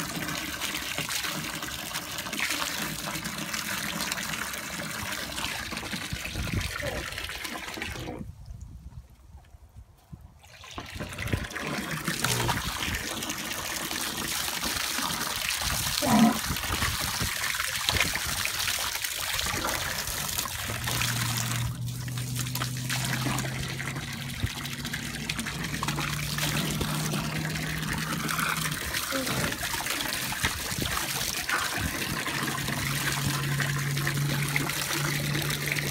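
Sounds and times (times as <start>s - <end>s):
hose water splashing into tub: 0.0s - 8.2s, 10.4s - 35.9s.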